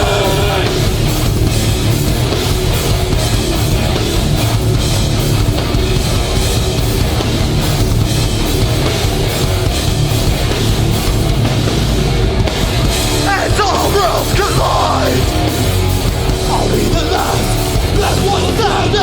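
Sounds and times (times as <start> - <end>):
bass guitar: 0.0 - 19.0
distorted guitars: 0.0 - 19.0
pounding drum kit: 0.0 - 19.0.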